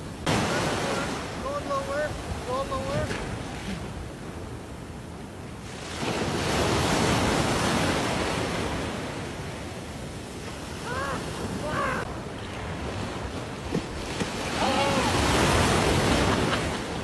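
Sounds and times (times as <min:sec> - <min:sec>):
ocean waves breaking: 0:00.0 - 0:17.0
wind on microphone: 0:00.0 - 0:17.0.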